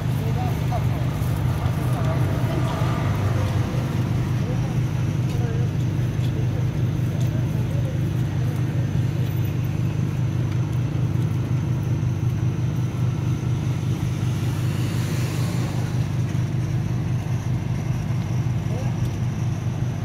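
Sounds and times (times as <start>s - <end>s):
motor humming with fast throb: 0.0s - 20.0s.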